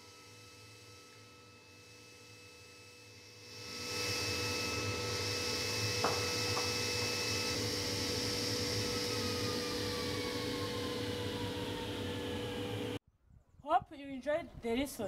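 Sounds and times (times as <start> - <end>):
circular saw whining: 0.0 - 13.0.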